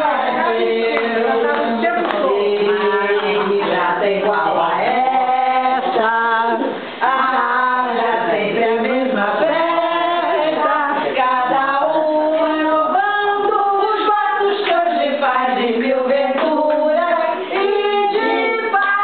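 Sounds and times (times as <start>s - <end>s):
group singing long held notes: 0.0s - 19.0s.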